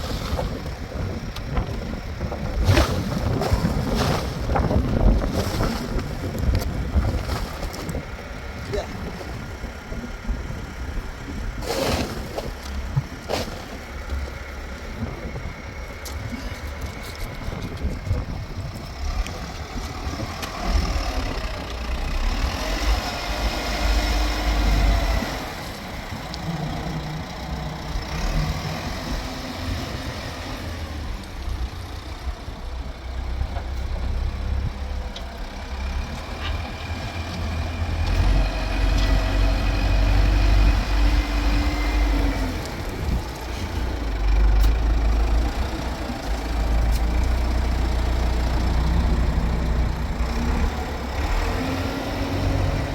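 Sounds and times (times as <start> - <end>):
vehicle engine rumbling: 0.0 - 52.9.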